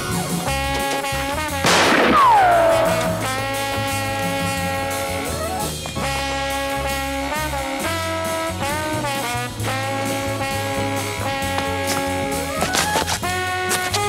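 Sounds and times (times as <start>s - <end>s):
swing music with brass: 0.0s - 14.0s.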